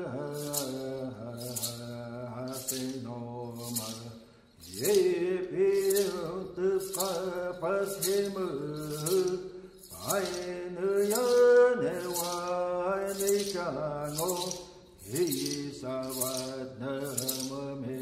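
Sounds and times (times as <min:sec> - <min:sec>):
high rattling hiss: 0:00.0 - 0:18.0.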